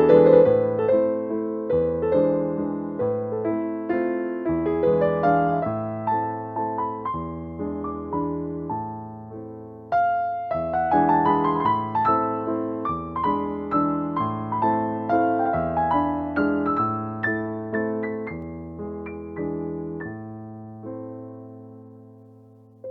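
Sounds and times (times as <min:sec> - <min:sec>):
electric piano chords: 0:00.0 - 0:22.9.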